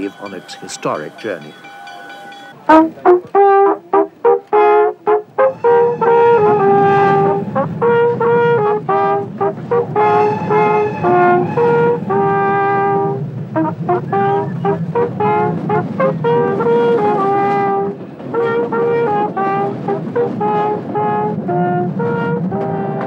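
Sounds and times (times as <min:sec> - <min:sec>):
hunting horns fanfare: 0:00.0 - 0:23.0.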